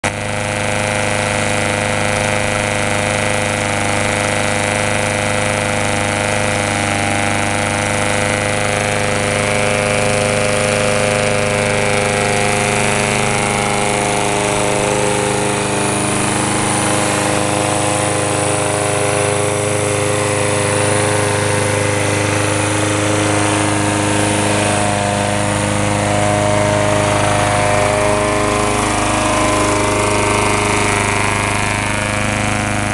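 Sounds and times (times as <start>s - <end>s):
lawn mower engine running: 0.0s - 32.9s.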